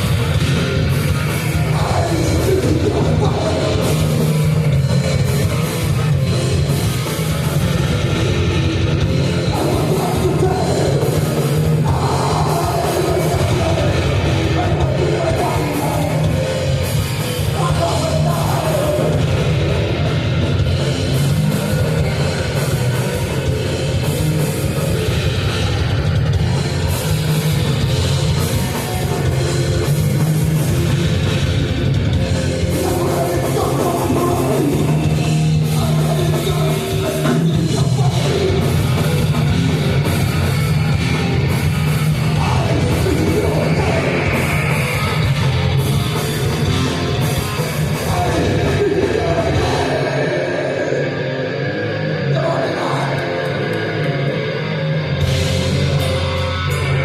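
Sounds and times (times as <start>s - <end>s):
live metal band playing: 0.0s - 57.0s.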